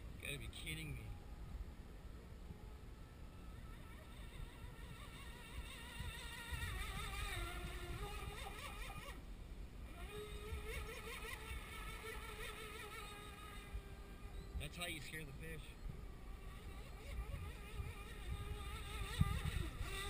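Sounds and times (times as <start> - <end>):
electric boat motor whining: 2.6 - 14.6, 15.6 - 20.0.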